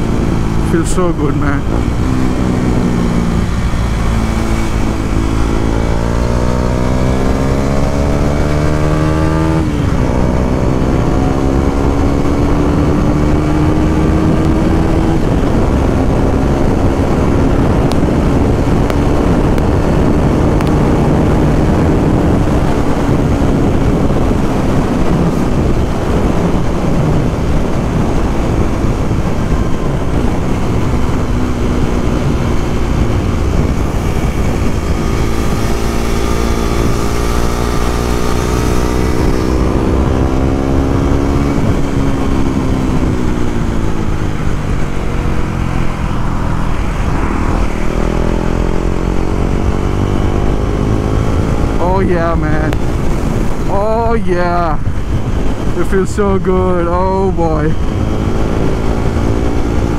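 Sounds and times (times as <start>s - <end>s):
motorcycle engine accelerating: 0.0s - 59.9s
wind rush on microphone: 0.0s - 59.9s.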